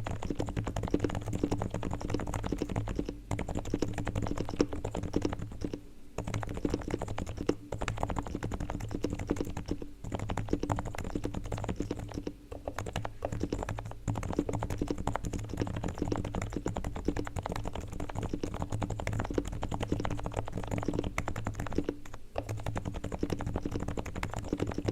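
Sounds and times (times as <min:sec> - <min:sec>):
fast keyboard typing: 0:00.0 - 0:24.9.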